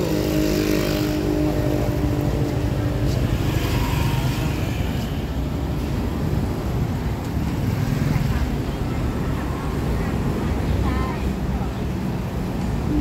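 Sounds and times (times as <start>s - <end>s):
motor scooters passing: 0.0s - 13.0s
traffic rumble: 0.0s - 13.0s.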